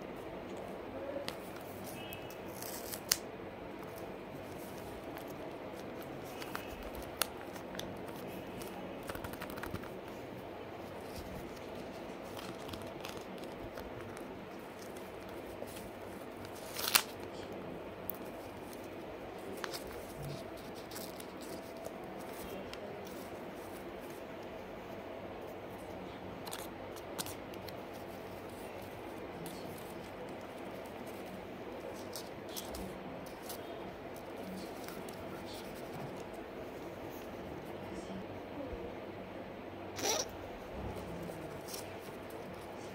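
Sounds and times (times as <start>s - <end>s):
steady background noise: 0.0s - 42.9s
paper rustling: 0.6s - 37.3s, 40.8s - 42.9s.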